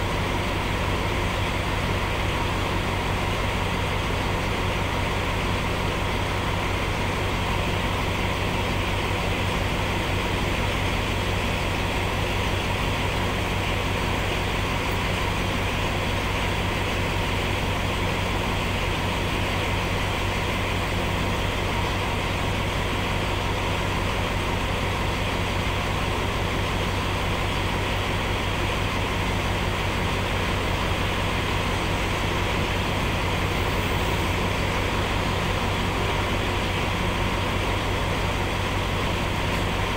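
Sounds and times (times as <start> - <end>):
train engine idling: 0.0 - 39.9.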